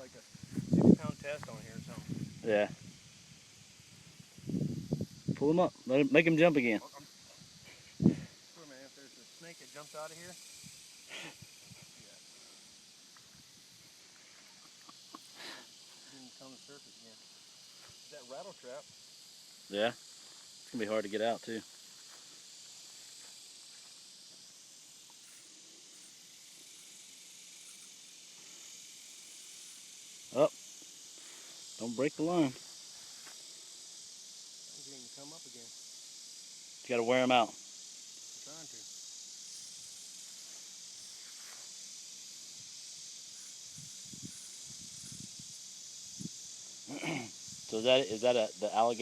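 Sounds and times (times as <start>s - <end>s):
insect chorus hiss: 0.0s - 49.0s.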